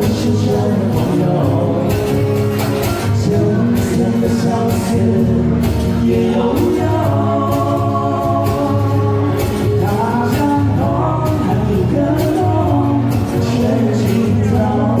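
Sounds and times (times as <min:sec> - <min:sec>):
live band playing pop song: 0:00.0 - 0:15.0
person singing long notes: 0:00.0 - 0:15.0.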